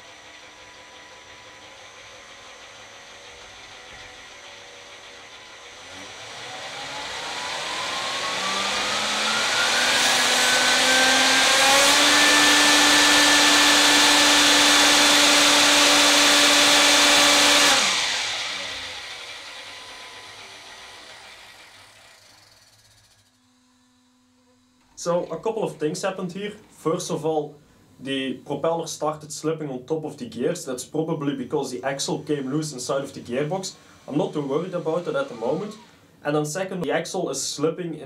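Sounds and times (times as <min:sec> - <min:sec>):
electric turbine whine: 0:00.0 - 0:28.4, 0:31.4 - 0:36.2.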